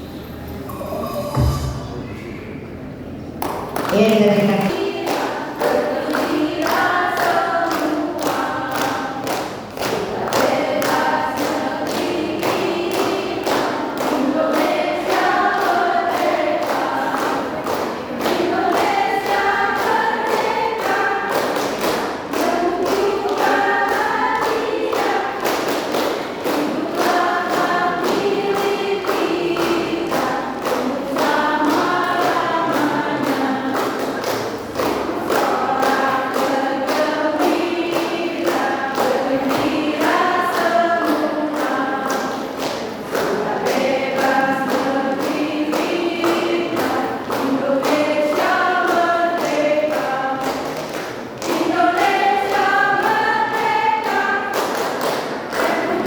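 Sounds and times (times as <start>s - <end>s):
choir singing in parts: 0.6s - 2.2s, 4.2s - 56.0s.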